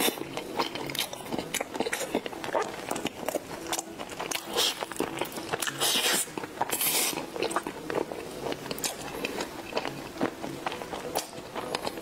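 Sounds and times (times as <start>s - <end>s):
person chewing pastry: 0.0s - 12.0s.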